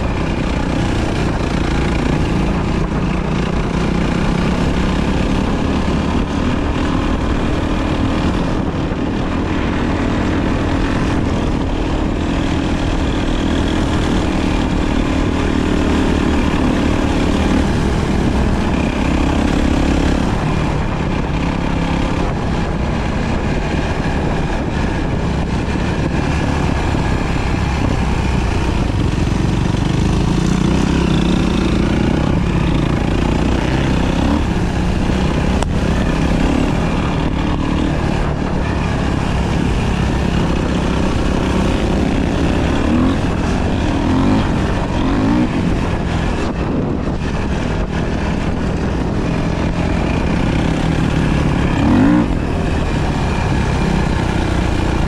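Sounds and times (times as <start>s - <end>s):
dirt bike engine revving: 0.0s - 55.0s
steady rush of noise: 0.0s - 55.0s.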